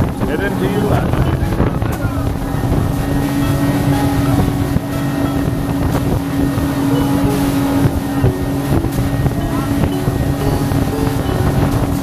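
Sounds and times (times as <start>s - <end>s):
motorboat engine droning: 0.0s - 12.0s
wind buffeting microphone: 0.0s - 12.0s.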